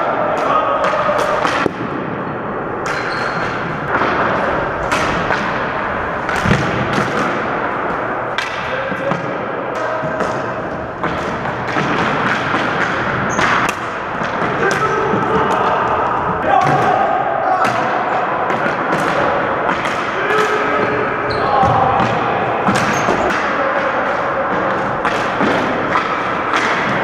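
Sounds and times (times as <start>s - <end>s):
hockey sticks and ball knocking: 0.1s - 2.2s, 2.8s - 17.0s, 17.6s - 27.0s.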